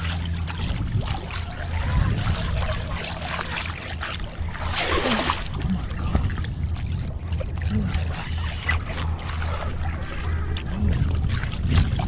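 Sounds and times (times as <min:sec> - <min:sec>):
water swishing and splashing: 0:00.0 - 0:12.0.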